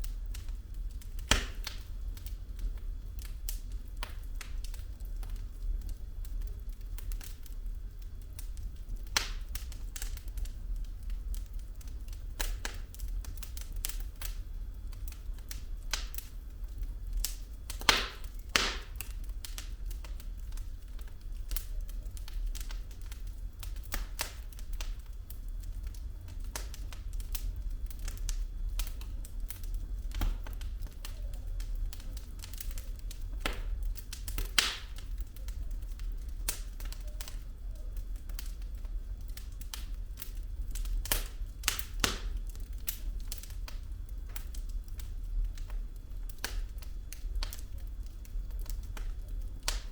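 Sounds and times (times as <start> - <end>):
fire low rumble: 0.0 - 49.9
logs crackling and popping: 0.0 - 49.9.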